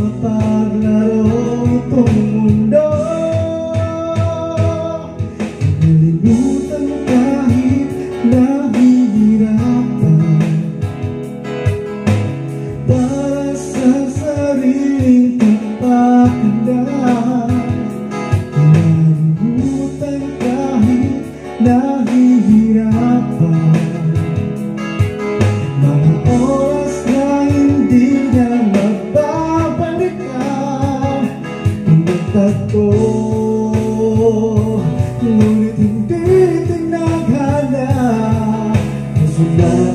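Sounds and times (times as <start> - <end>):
guitar backing track: 0.0 - 39.9
person singing karaoke: 0.0 - 39.9.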